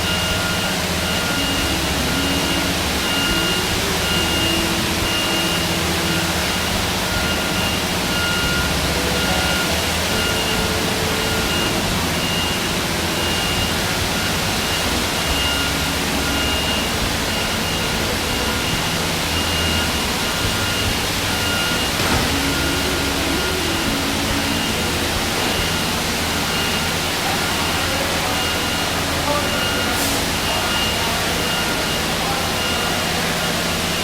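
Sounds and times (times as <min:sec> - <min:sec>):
back-up alarm beeping: 0:00.0 - 0:34.0
heavy machinery rushing noise: 0:00.0 - 0:34.0
low engine hum: 0:00.0 - 0:34.0.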